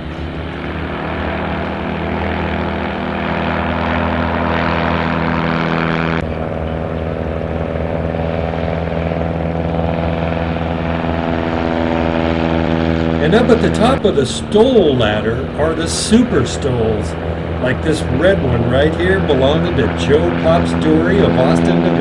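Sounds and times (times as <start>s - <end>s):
propeller airplane engine at full power: 0.0s - 22.0s.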